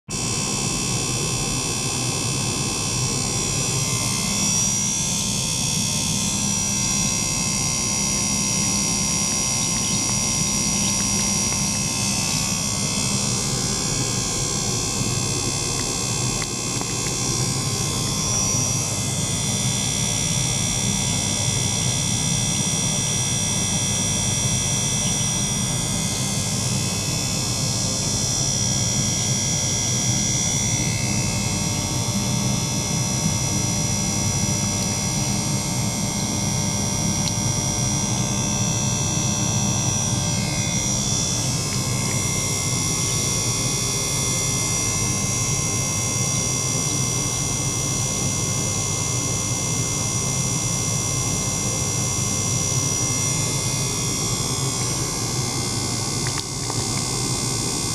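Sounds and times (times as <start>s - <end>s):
electric pump humming: 0.1s - 57.9s.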